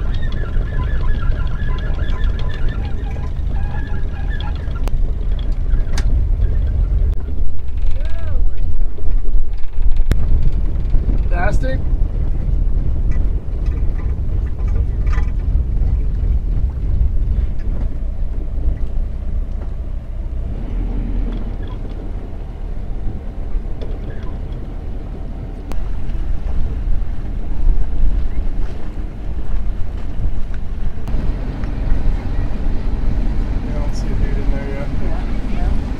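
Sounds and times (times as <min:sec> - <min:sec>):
boat engine rumble: 0:00.0 - 0:35.9.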